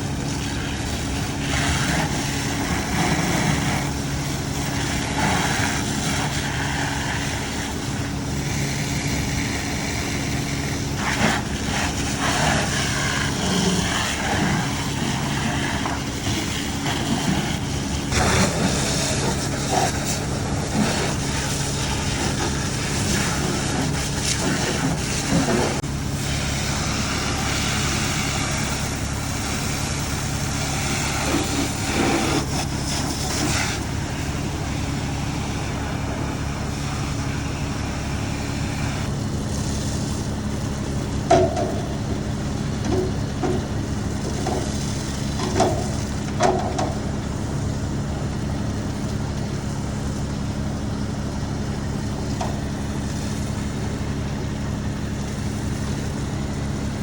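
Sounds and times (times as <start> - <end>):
fire engine diesel drone: 0.0 - 57.0.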